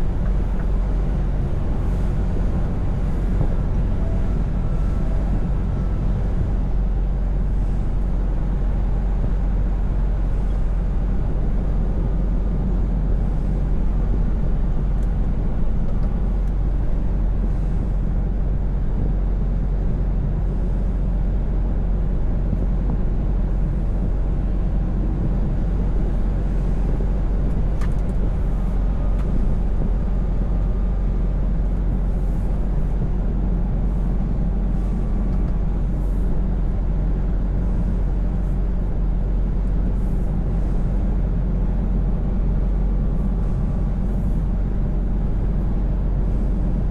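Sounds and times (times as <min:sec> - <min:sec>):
road and tyre noise: 0:00.0 - 0:46.9
truck engine drone: 0:00.0 - 0:46.9.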